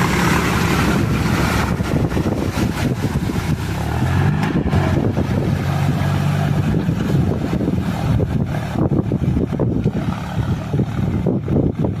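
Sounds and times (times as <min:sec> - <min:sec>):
tractor diesel engine running: 0:00.0 - 0:12.0
wind buffeting microphone: 0:00.0 - 0:12.0.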